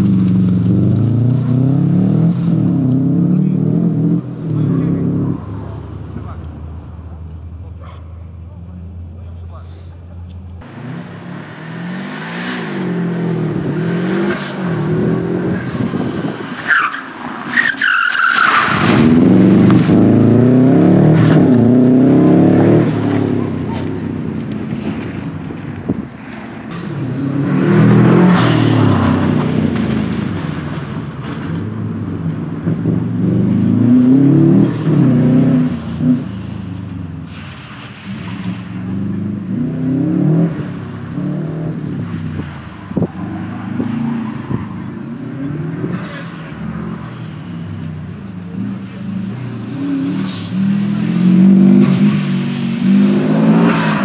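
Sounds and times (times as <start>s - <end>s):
rally car engine revving hard: 0.0s - 5.7s, 10.6s - 16.6s, 18.4s - 54.0s.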